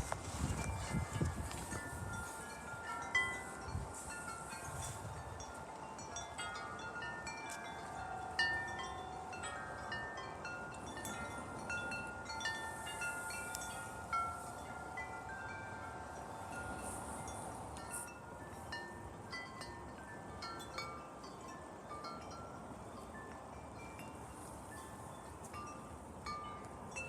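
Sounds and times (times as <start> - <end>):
low rumble of wind: 0.0 - 27.0
metal wind chimes ringing: 0.2 - 27.0.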